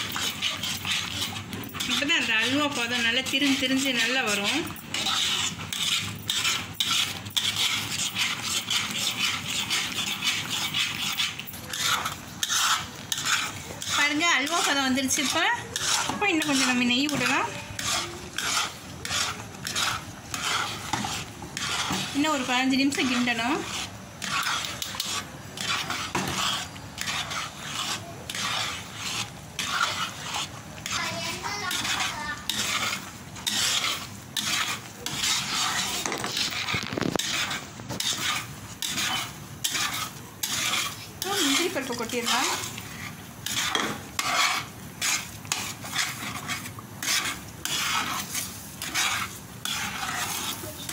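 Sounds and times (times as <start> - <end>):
metal spatula scraping pan: 0.0 - 50.9
thick mixture bubbling: 0.0 - 50.9.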